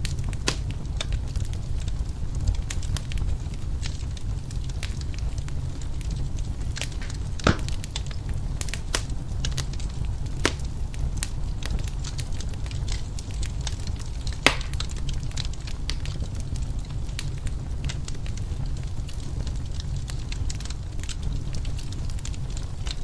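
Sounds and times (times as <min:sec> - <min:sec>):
low fire rumble: 0:00.0 - 0:23.0
wood fire crackling: 0:00.0 - 0:23.0.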